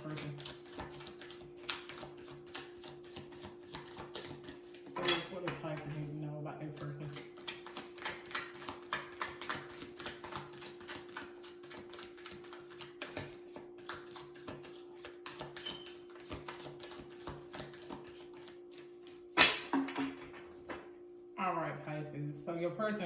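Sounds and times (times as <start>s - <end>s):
cards being shuffled: 0.0s - 6.1s, 6.7s - 19.4s.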